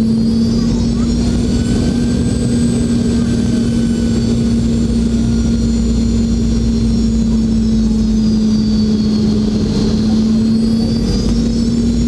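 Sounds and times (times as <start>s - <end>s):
airplane cabin engine rumble: 0.0s - 12.0s
high fan whine: 0.0s - 12.0s.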